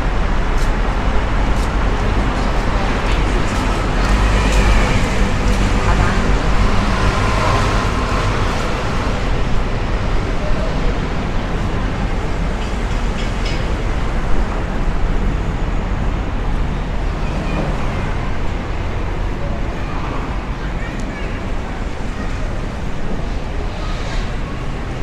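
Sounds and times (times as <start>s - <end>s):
distant road traffic: 0.0s - 25.0s
faint voices of people: 1.9s - 25.0s.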